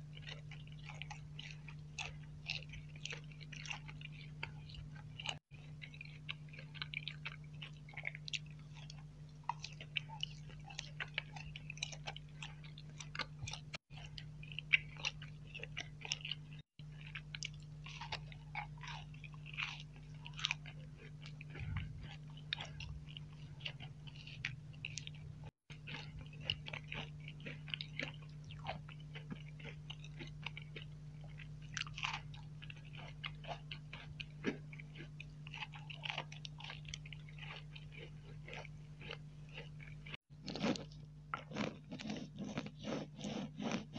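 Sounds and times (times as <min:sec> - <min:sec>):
chewing and crunching sweets: 0:00.0 - 0:43.9
steady low hum: 0:00.0 - 0:43.9.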